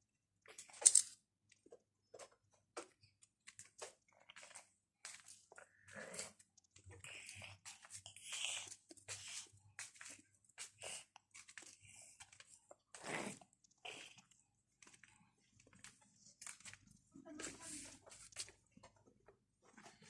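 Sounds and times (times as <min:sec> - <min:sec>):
faint crunching and crackling: 0:00.4 - 0:20.0.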